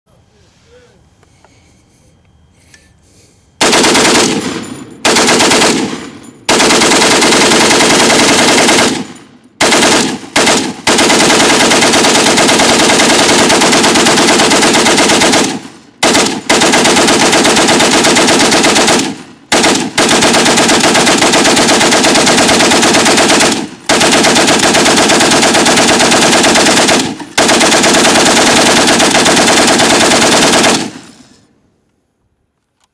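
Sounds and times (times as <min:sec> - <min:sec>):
machine gun firing bursts: 0:03.6 - 0:31.6.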